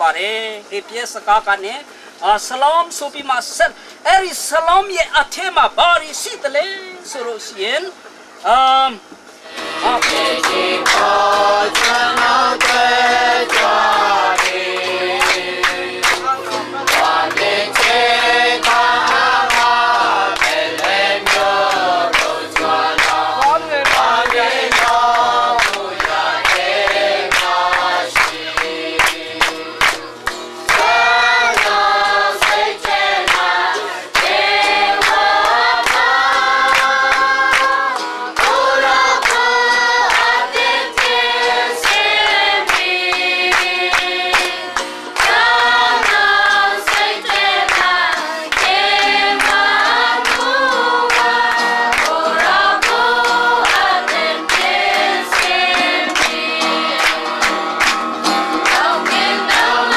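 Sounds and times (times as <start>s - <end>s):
congregation singing a hymn: 8.0s - 59.9s.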